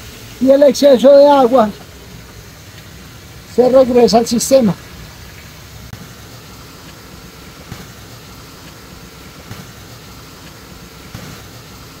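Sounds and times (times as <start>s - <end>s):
machine hum: 0.0s - 12.0s
water rushing: 0.0s - 12.0s.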